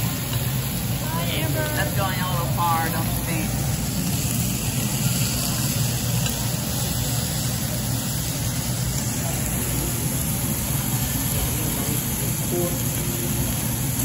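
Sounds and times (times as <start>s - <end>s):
meat sizzling on grill: 0.0s - 14.0s.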